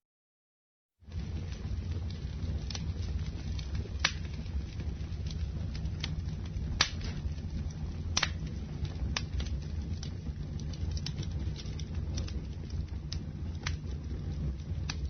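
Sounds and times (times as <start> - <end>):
campfire low rumble: 1.0 - 15.0
fire crackles and pops: 1.0 - 15.0.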